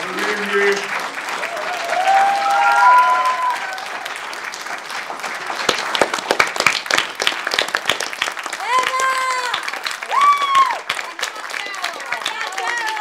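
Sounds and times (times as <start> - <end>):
audience applauding: 0.0 - 13.0
sharp claps: 0.6 - 13.0.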